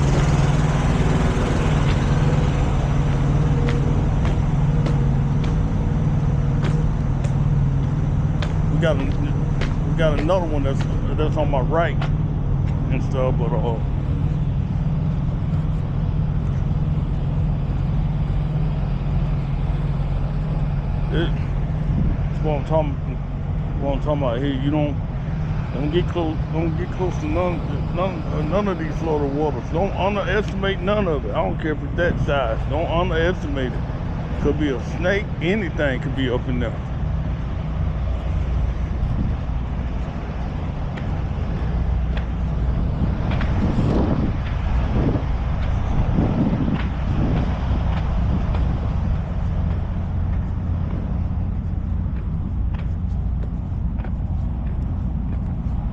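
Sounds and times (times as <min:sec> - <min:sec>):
truck diesel engine droning: 0:00.0 - 0:55.9.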